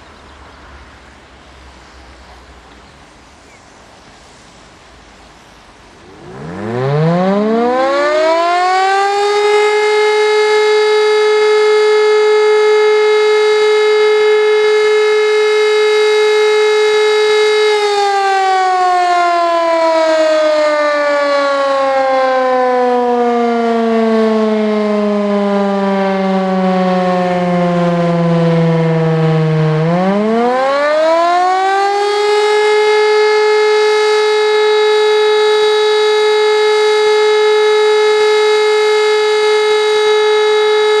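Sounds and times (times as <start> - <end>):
motor siren wailing: 6.0 - 41.0.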